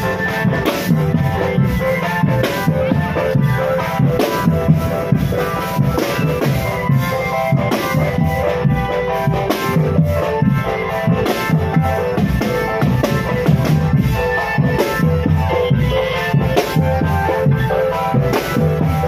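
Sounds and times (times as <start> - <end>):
marching drum band playing: 0.0 - 19.0
snare and bass drums beat: 0.0 - 19.0.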